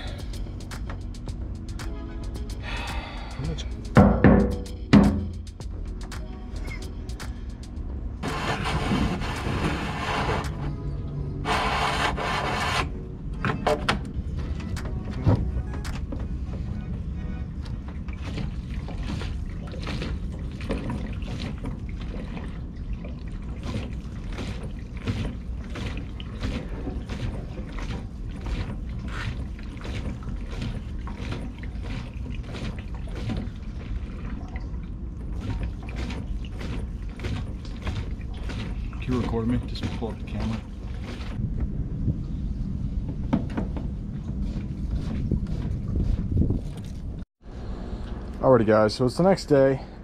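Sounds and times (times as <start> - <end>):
steady low rumble: 0.0 - 11.6, 12.9 - 50.0
fuel splashing and gurgling: 0.0 - 13.2, 15.4 - 47.8.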